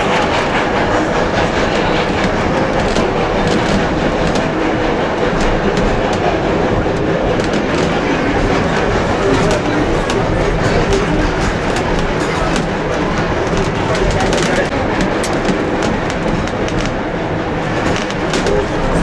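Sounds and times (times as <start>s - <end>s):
train rolling rumble: 0.0s - 19.0s
wheels clattering over rails: 0.0s - 19.0s.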